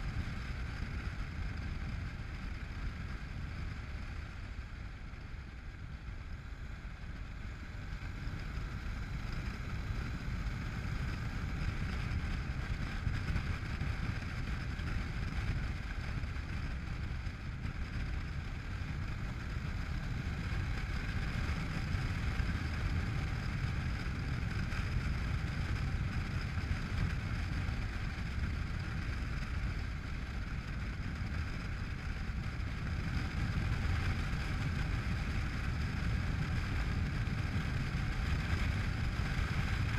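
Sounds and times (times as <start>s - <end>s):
motorcycle engine running: 0.0s - 39.9s
wind rushing over microphone: 7.2s - 39.9s.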